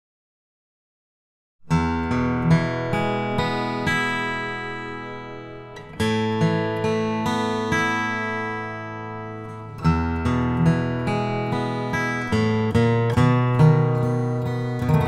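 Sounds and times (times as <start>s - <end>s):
acoustic guitar picking: 1.7s - 15.0s.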